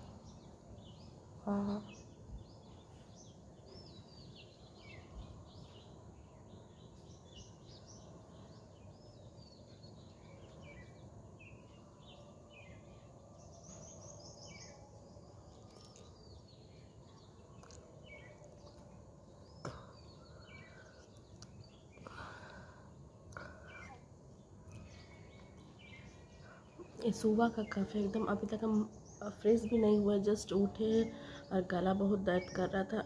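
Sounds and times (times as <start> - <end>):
low steady background noise: 0.0 - 33.0
small birds chirping: 0.0 - 33.0.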